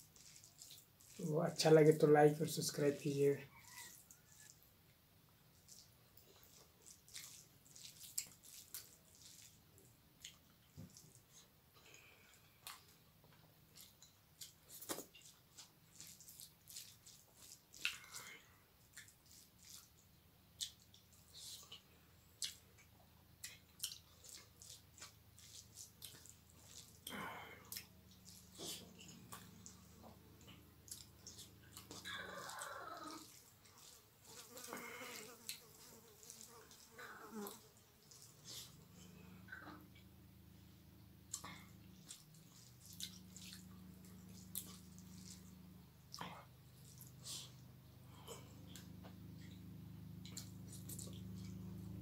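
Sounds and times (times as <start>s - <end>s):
chewing and mouth clicks: 0.0s - 1.3s, 3.5s - 4.6s, 5.5s - 40.2s, 41.2s - 52.0s
wet squishing of food mixed by hand: 0.0s - 52.0s.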